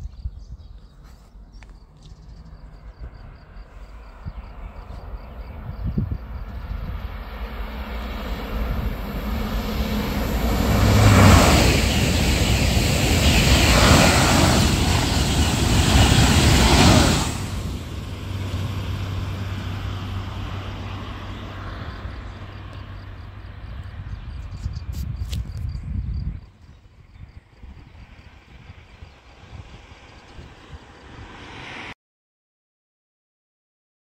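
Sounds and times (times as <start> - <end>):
faint steady rumble: 1.2 - 32.0
high-speed train roaring past: 2.3 - 25.2, 25.8 - 32.0.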